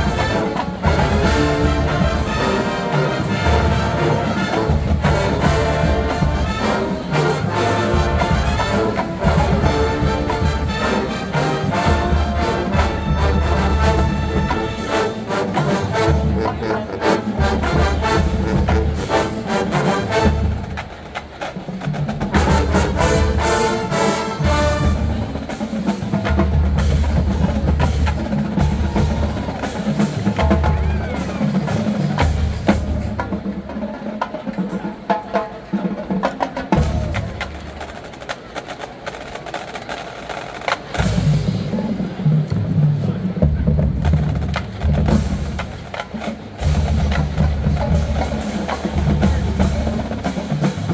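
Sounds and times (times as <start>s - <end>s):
marching band brass: 0.0s - 50.9s
snare drum rolls: 0.0s - 50.9s.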